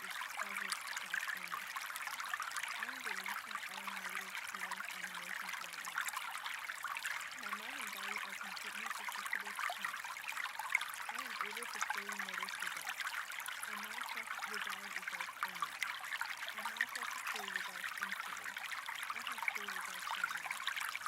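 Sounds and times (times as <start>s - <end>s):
running water: 0.0s - 21.0s.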